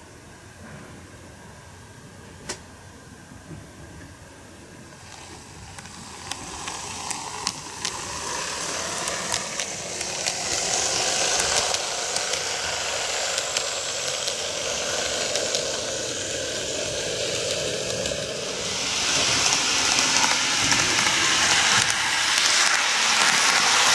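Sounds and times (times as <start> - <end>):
model train rolling whir: 3.4 - 23.9.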